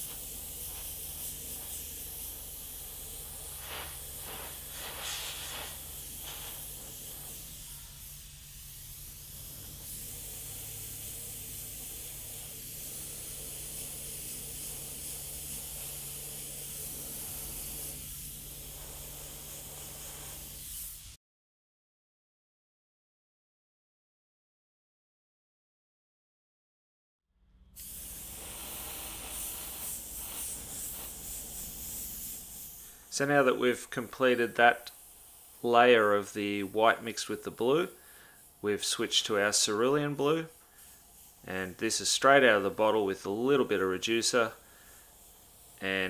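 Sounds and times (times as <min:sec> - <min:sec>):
airbrush air hiss: 0:00.0 - 0:21.2, 0:27.6 - 0:46.0.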